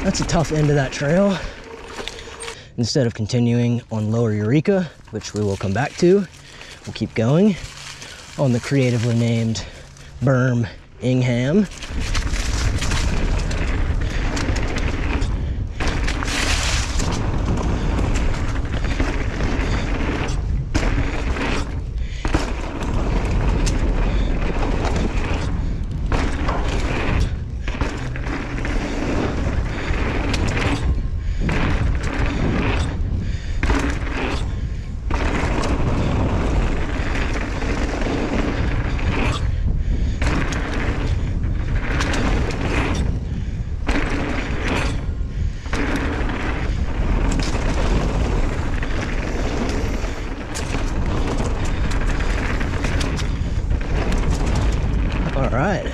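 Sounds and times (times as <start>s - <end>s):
tyre and trail noise: 0.0s - 55.9s
wind buffeting microphone: 0.0s - 55.9s.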